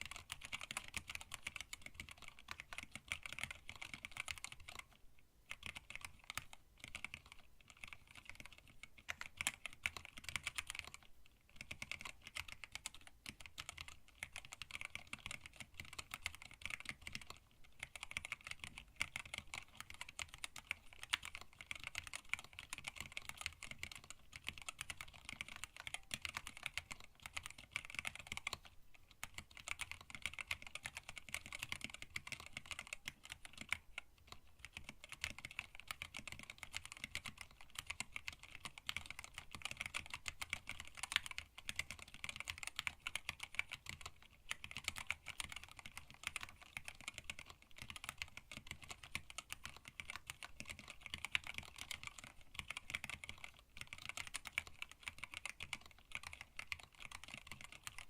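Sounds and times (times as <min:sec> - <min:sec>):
mechanical keyboard typing: 0:00.0 - 0:58.0.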